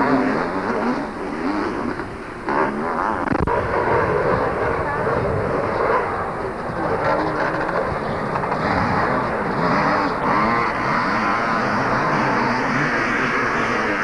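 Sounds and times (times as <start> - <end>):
motocross engines revving: 0.0 - 14.0.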